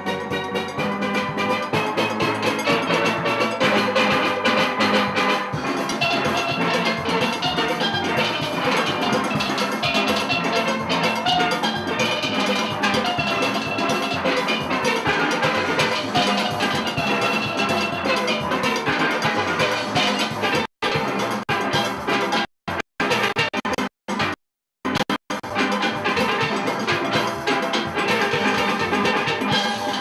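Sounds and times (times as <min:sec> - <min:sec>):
drums and percussion: 0:00.0 - 0:30.0
steel pans playing calypso: 0:00.0 - 0:30.0.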